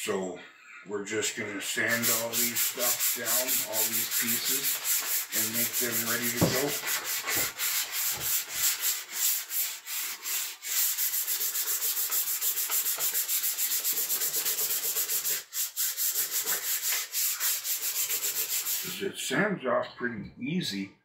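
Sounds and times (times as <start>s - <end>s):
sandpaper rubbing on plastic: 1.6s - 19.0s.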